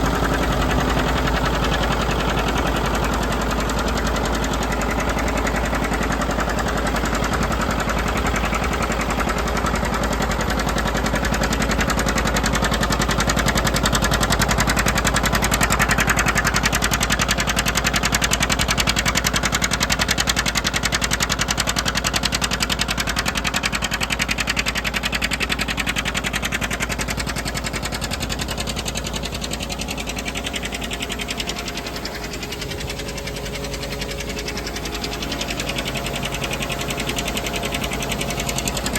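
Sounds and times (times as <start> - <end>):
diesel engine running under load: 0.0 - 38.9
feed grinder machinery grinding: 0.0 - 38.9.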